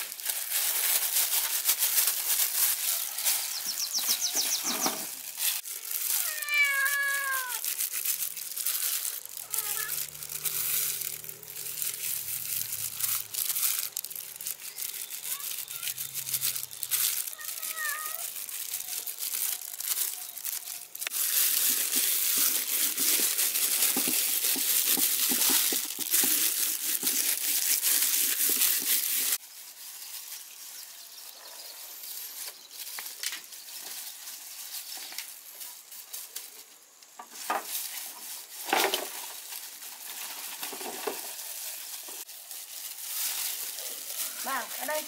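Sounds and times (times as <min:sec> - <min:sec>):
plastic gloves crinkling: 0:00.0 - 0:45.0.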